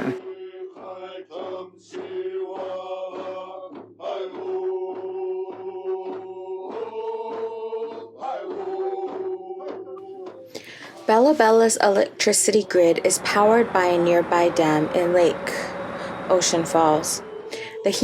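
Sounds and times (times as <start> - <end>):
voices chanting long notes: 0.0 - 10.6, 12.2 - 18.0
steady drum beat: 1.8 - 18.0.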